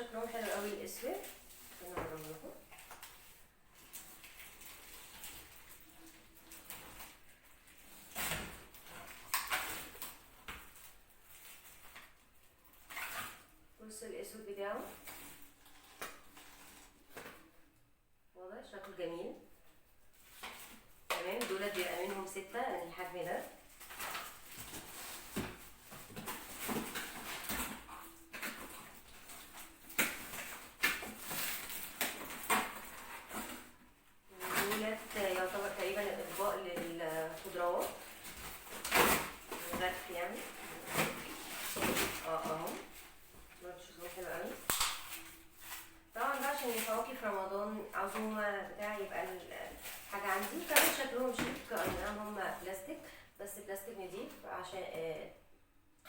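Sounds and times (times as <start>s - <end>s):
packaging rustling: 0.0s - 13.6s, 14.8s - 17.5s, 20.1s - 52.9s.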